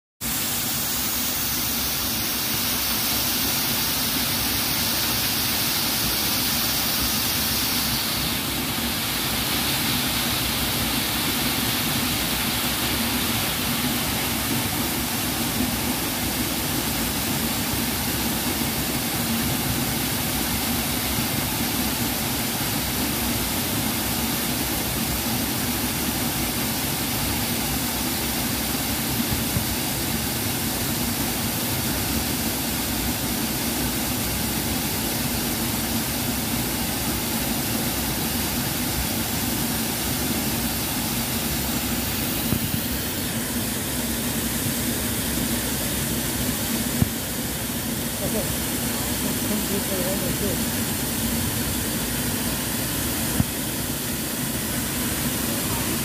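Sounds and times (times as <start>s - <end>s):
waterfall rushing: 0.2s - 56.0s.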